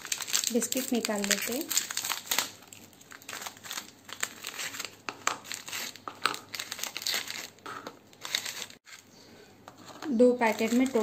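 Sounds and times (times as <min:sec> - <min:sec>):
plastic wrapper crinkling: 0:00.0 - 0:09.1, 0:10.0 - 0:11.0.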